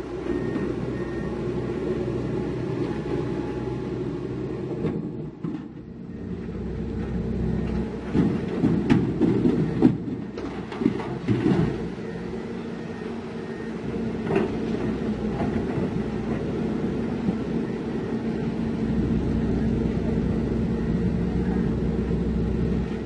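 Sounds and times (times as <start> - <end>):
diesel machinery running: 0.0 - 23.0.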